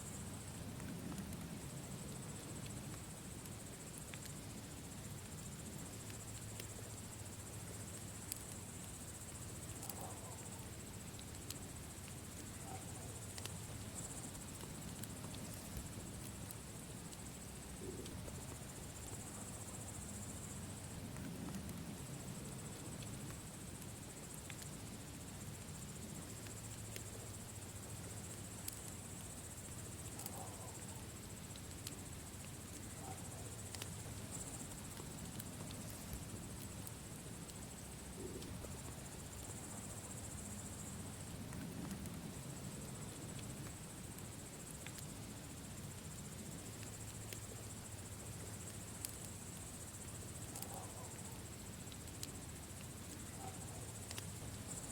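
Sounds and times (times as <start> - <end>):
campfire crackling and popping: 0.0 - 50.7, 51.5 - 54.9
crickets chirping: 0.0 - 54.9.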